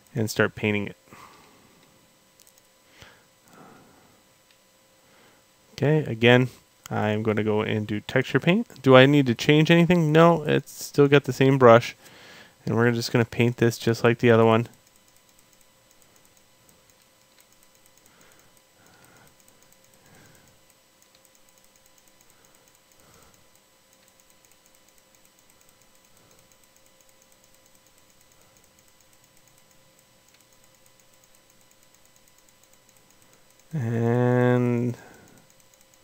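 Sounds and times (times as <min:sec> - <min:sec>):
faint hum and hiss: 0:00.0 - 0:36.0.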